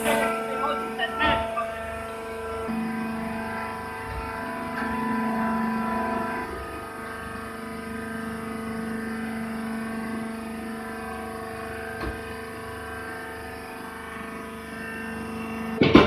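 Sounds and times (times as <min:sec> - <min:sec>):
electric motor and pump humming: 0:00.0 - 0:16.0.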